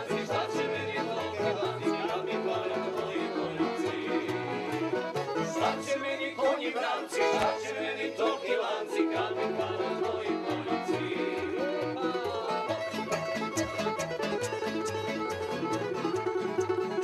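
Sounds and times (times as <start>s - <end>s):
walking bass: 0.0s - 5.9s, 9.0s - 17.0s
upbeat bluegrass tune: 0.0s - 17.0s.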